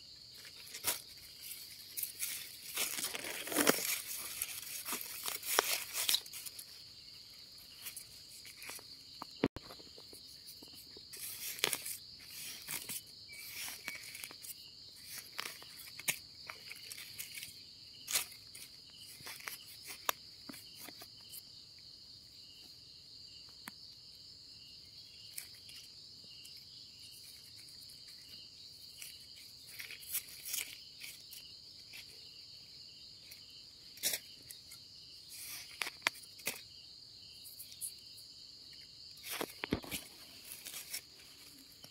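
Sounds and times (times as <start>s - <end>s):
crickets chirring: 0.0s - 41.9s
dry leaves and soil rustling: 0.1s - 21.5s, 25.2s - 32.5s, 33.2s - 36.7s, 39.0s - 41.9s.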